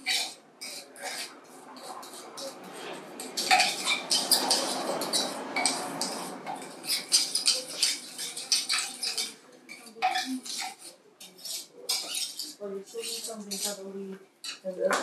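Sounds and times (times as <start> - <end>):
brush scraping in glass jar: 0.0 - 13.8.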